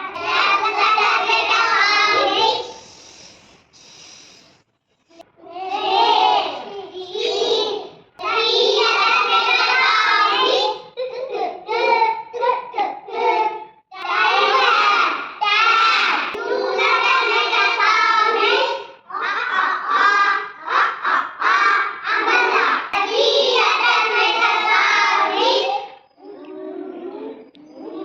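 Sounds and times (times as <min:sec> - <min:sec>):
young children singing: 0:00.0 - 0:04.4, 0:05.2 - 0:28.0.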